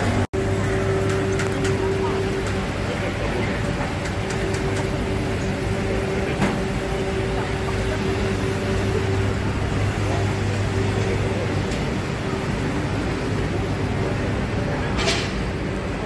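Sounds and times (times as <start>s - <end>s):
mechanical hum: 0.0s - 16.0s
people and stalls background noise: 0.0s - 16.0s.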